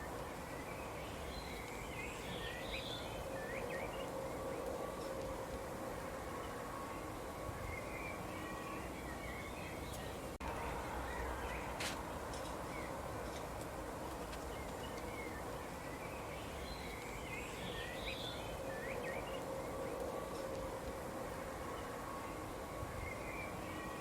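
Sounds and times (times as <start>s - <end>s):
small birds chirping: 0.0s - 10.4s, 11.0s - 24.0s
background hiss and hum: 0.0s - 24.0s.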